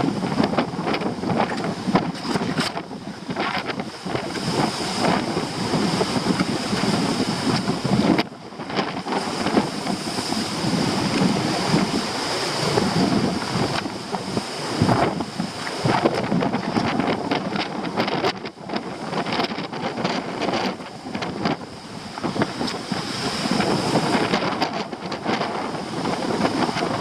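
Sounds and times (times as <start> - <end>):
storm waves breaking: 0.0 - 27.0
strong wind on microphone: 0.0 - 27.0.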